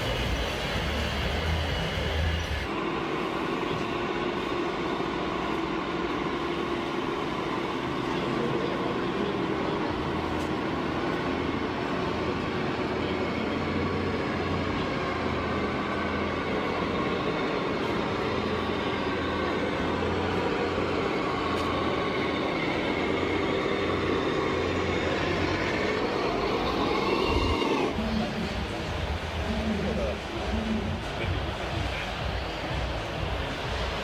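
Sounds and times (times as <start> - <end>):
model truck motors whining: 0.0 - 34.0.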